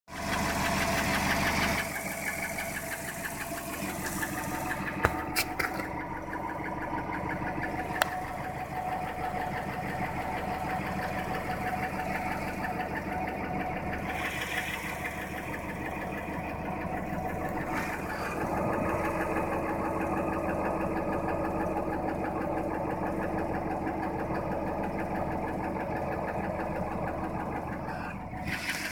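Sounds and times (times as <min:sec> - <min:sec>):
engine knocking: 0:00.1 - 0:28.9.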